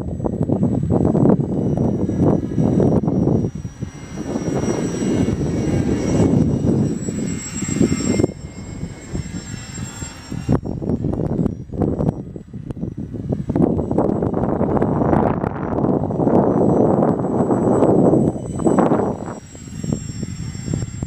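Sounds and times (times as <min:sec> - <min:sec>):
high plane whine: 0:00.0 - 0:21.0
propeller plane flying past: 0:00.0 - 0:21.0
wind buffeting microphone: 0:00.0 - 0:21.0.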